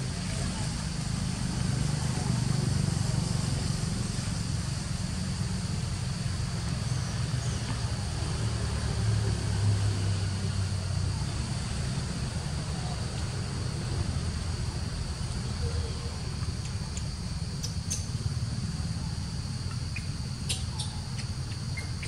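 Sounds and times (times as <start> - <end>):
high insect drone: 0.0 - 22.0
low engine-like rumble: 0.0 - 22.0.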